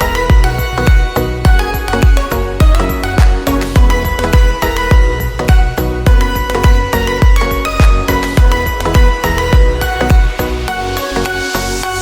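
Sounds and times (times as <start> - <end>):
background music with melodic notes: 0.0 - 12.0
deep drum thump: 0.3 - 10.4.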